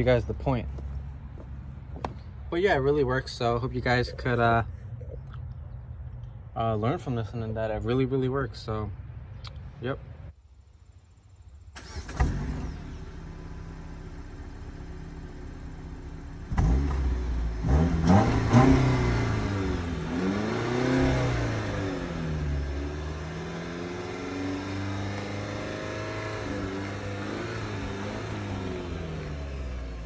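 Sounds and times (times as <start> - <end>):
car engine idling and revving: 0.0 - 9.6, 11.8 - 30.0.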